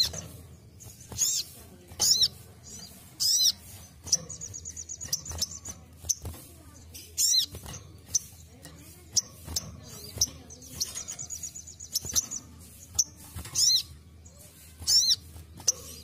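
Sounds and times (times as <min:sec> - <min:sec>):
bird chirping: 0:00.0 - 0:16.0
bird trill: 0:00.0 - 0:16.0
wings fluttering: 0:00.0 - 0:16.0.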